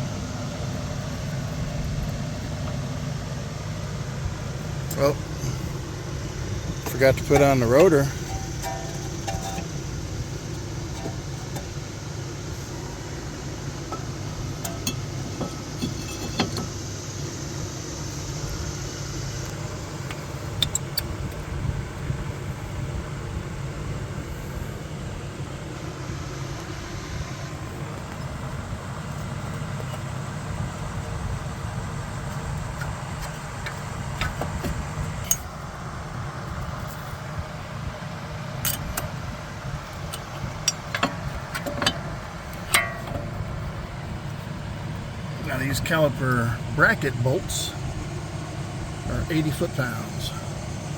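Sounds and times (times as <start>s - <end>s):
low background hum: 0.0s - 50.9s.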